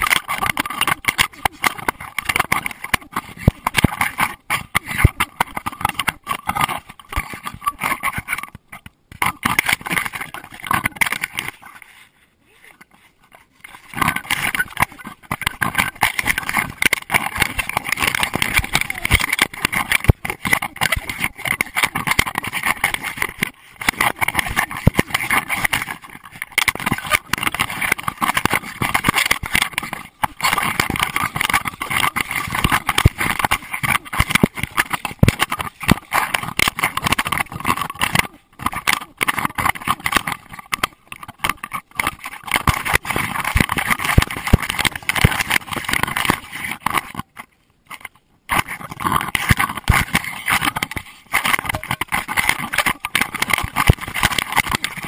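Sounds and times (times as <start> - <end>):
camera housing knocking and rubbing: 0.0 - 11.8, 12.8 - 55.0.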